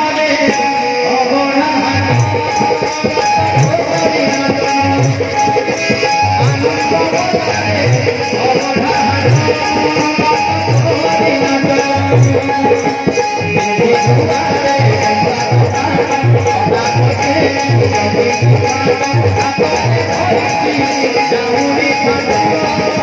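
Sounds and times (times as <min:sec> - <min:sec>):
harmonium melody: 0:00.0 - 0:23.0
tabla: 0:00.0 - 0:23.0
high ticking small percussion: 0:00.4 - 0:01.3, 0:02.0 - 0:23.0.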